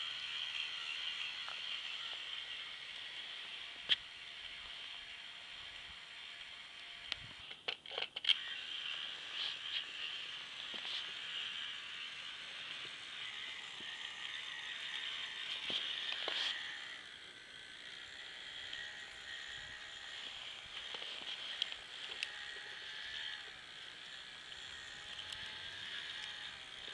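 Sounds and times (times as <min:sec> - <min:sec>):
toy truck motor whirring: 0:00.0 - 0:26.9.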